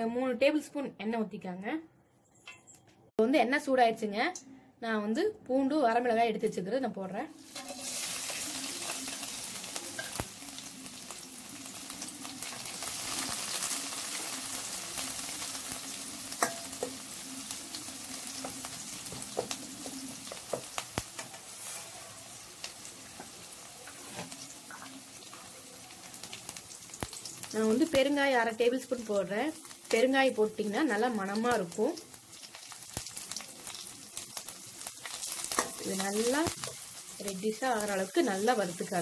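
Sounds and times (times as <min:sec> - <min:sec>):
garlic and chillies sizzling in oil: 0:05.8 - 0:39.0.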